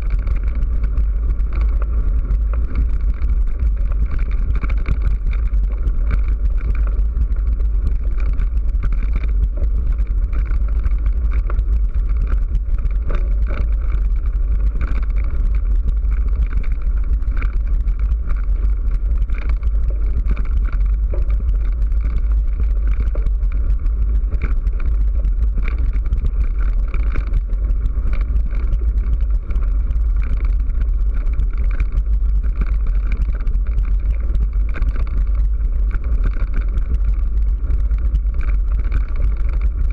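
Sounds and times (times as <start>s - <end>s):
wind rumble on camera: 0.0s - 39.9s.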